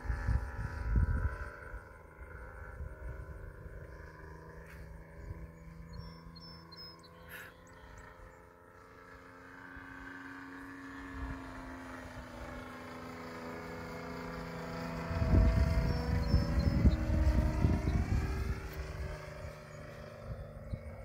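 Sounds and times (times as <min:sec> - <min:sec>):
model plane engine drone: 0:00.0 - 0:21.0.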